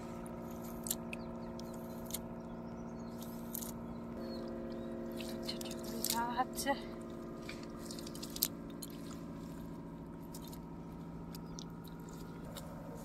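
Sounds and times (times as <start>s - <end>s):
engine-like pulsing hum: 0.0s - 13.0s.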